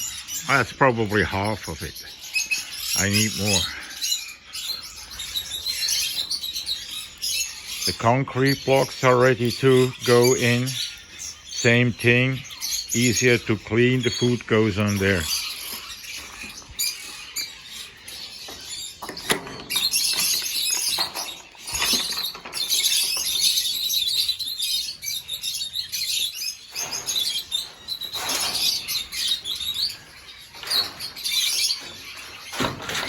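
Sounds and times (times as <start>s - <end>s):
birds twittering: 0.0s - 33.0s.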